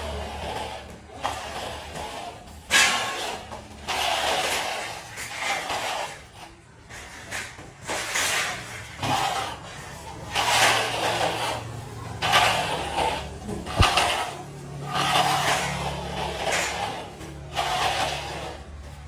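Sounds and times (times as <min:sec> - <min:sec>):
metal bar scraping wet concrete: 0:00.0 - 0:19.0.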